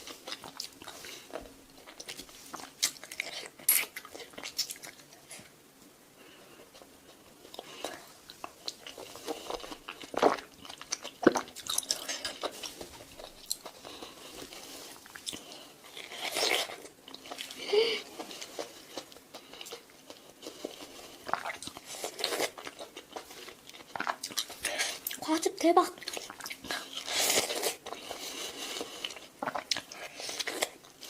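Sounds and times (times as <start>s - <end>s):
wet chewing: 0.0s - 5.5s, 6.7s - 31.0s.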